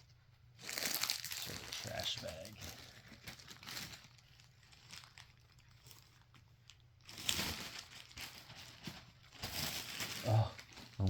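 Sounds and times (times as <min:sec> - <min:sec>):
plastic wrappers crinkling: 0:00.6 - 0:11.0.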